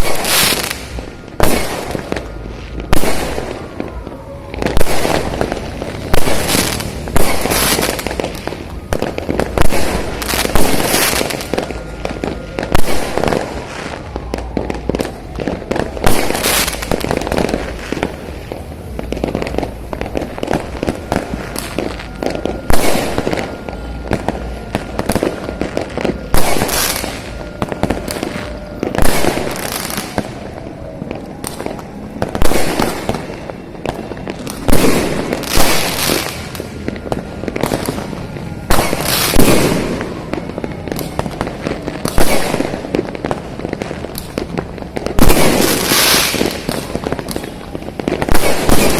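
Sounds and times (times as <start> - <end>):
fireworks bangs: 0.0 - 48.9
fireworks crackle: 0.0 - 48.9.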